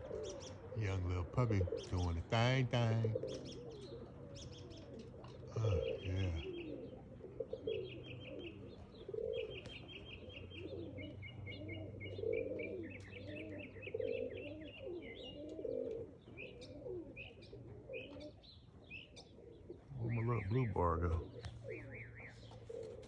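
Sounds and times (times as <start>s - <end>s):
pigeons cooing: 0.0s - 23.0s
small birds chirping: 0.0s - 23.0s.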